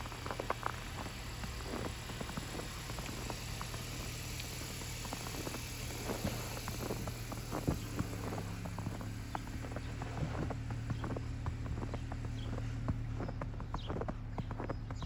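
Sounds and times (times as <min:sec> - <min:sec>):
background hiss: 0:00.0 - 0:12.9
vehicle engines humming: 0:00.0 - 0:15.0.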